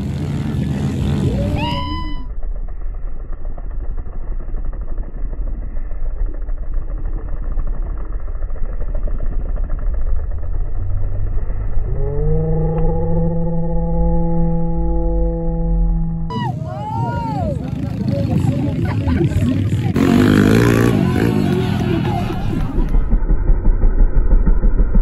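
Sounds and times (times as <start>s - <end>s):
bike engine revving: 0.0s - 25.0s
pit bike engines buzzing: 0.0s - 25.0s.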